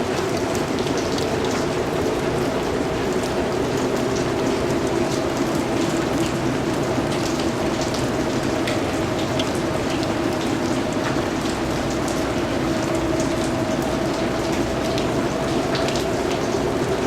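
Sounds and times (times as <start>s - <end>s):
raindrops ticking on a surface: 0.0s - 17.0s
steady rain falling: 0.0s - 17.0s.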